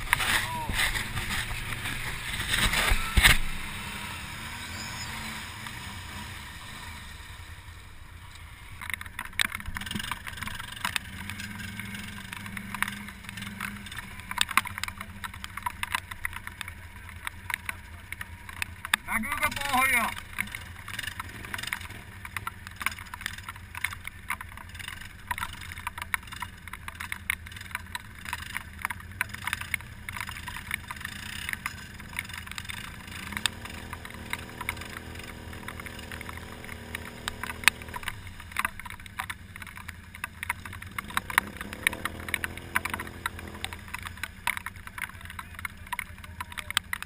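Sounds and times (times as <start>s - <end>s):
quad bike engine idling: 0.0s - 47.0s
quad bike engine revving: 0.0s - 47.0s
light crackle of clicks: 8.3s - 47.0s.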